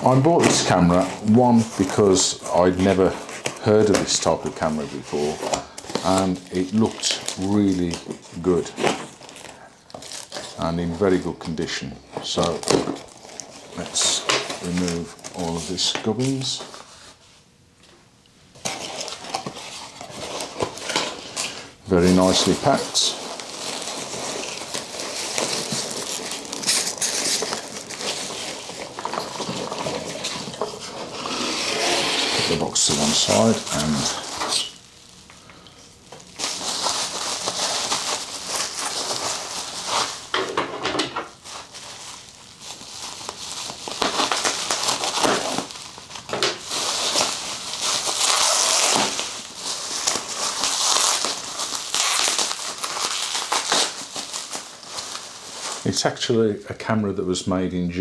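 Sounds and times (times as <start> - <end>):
packing peanuts rustling in box: 0.0 - 17.0, 18.6 - 35.2, 36.2 - 40.4, 41.3 - 56.2
bubble wrap crinkling: 0.0 - 17.4, 18.5 - 56.9.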